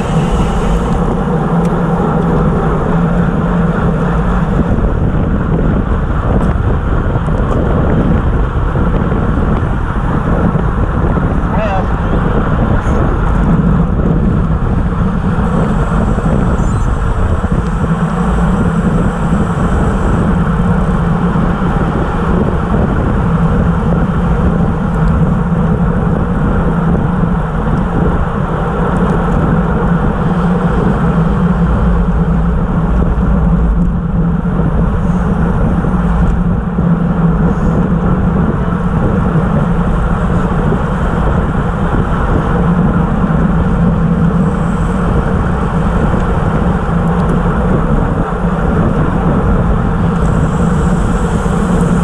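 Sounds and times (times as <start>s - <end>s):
bicycle tyres and drivetrain humming: 0.0s - 52.0s
wind rushing over microphone: 0.0s - 52.0s.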